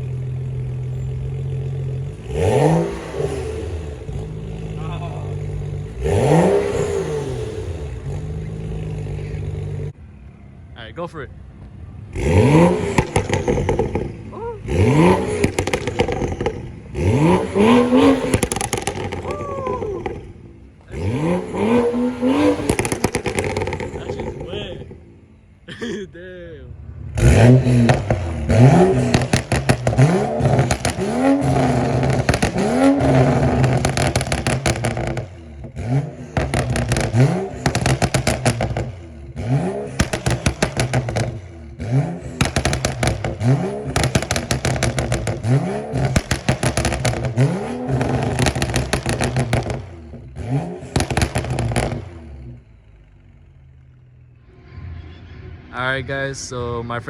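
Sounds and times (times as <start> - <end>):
car engine revving with crackles: 0.0 - 10.0, 11.4 - 26.0, 26.7 - 57.0.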